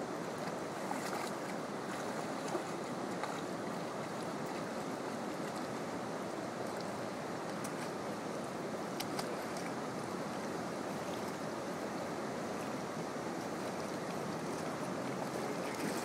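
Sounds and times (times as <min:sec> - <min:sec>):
river water rushing: 0:00.0 - 0:16.0
dog wading splashes: 0:00.2 - 0:11.4, 0:12.4 - 0:16.0.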